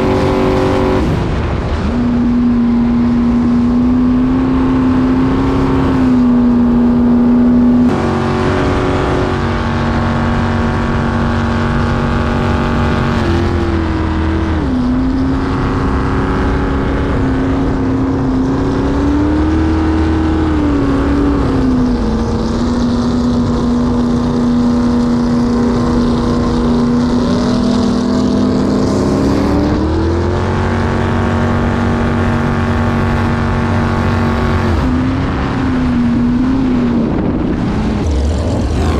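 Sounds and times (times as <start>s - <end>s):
boat engine revving: 0.0s - 38.9s.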